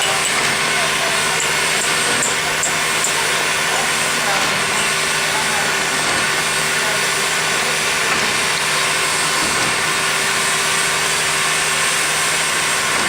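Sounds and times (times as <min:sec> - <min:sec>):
locomotive hissing: 0:00.0 - 0:13.0.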